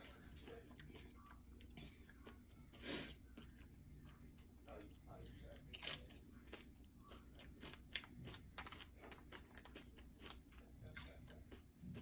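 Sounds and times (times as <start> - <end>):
person chewing crisp chips: 0.0 - 12.0.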